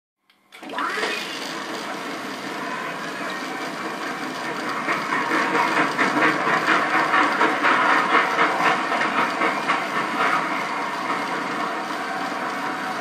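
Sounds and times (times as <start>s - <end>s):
steam locomotive chuffing: 1.3s - 13.0s
steam locomotive rumble and hiss: 1.5s - 13.0s.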